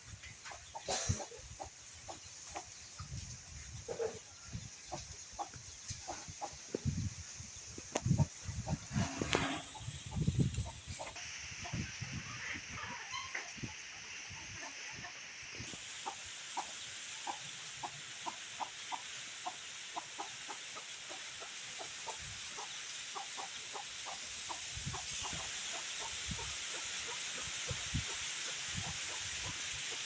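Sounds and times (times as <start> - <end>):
chickens clucking: 0.0 - 30.0
steady high hiss: 0.0 - 30.0.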